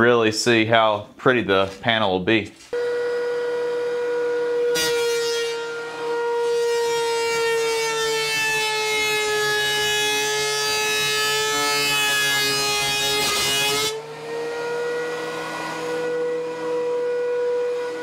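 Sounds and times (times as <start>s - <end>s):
planer motor whine: 2.8s - 18.0s.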